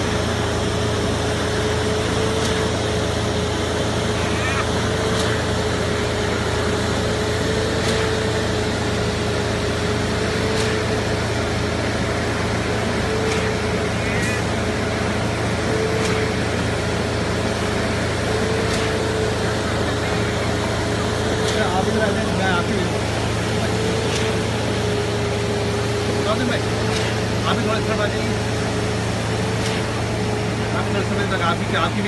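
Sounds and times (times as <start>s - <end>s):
diesel engines humming: 0.0s - 32.0s.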